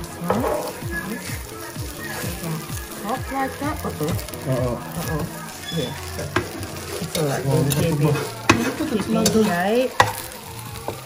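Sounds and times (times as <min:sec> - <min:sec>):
food sizzling on a hot pan: 0:00.0 - 0:11.0.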